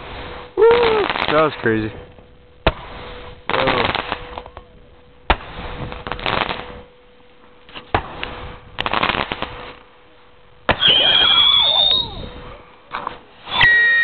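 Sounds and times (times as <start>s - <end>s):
firework crackling: 0.0s - 6.9s, 7.6s - 14.0s
firework bangs: 0.0s - 7.0s, 7.7s - 9.9s, 10.6s - 14.0s.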